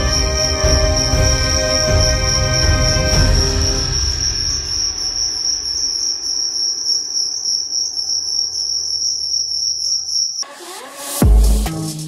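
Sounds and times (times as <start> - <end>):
cricket trilling: 0.0 - 10.5.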